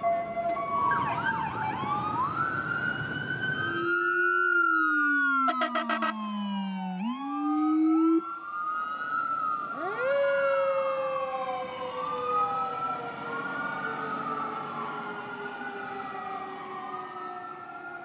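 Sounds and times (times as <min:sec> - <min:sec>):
electronic siren wailing: 0:00.0 - 0:18.0.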